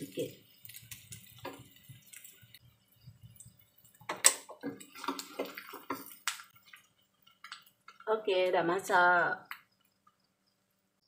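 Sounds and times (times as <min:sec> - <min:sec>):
oil popping and crackling: 0:00.0 - 0:11.0.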